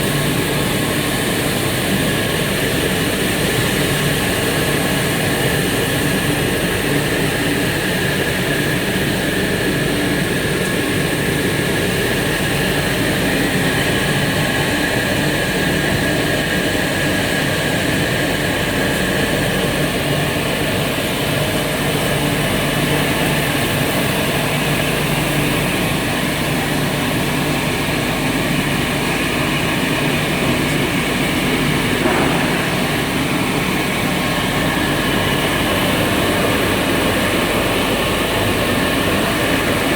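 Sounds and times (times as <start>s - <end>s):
machine hum and hiss: 0.0s - 39.9s.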